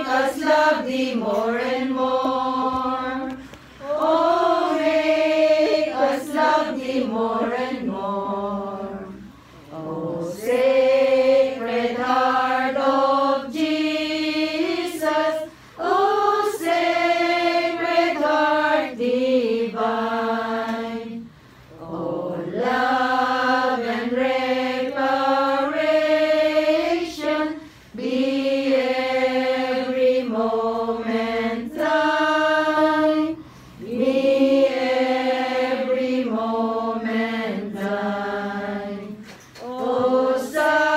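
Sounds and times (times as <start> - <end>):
group singing a hymn: 0.0 - 40.9.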